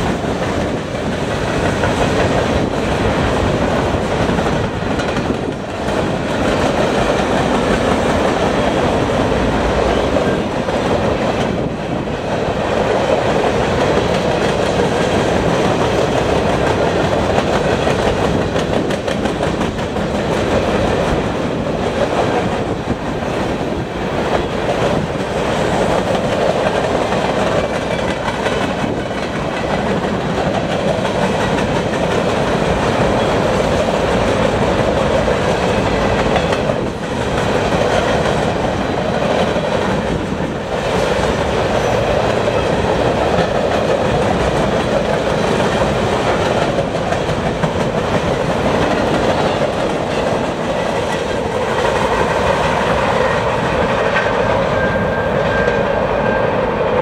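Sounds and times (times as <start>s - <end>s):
wheels clacking over rail joints: 0.0s - 55.9s
steel wheels rumbling on rail: 0.0s - 57.0s.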